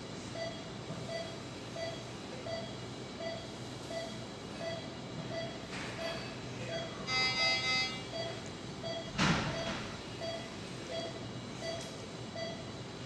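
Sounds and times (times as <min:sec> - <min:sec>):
patient monitor beeping: 0:00.3 - 0:12.8.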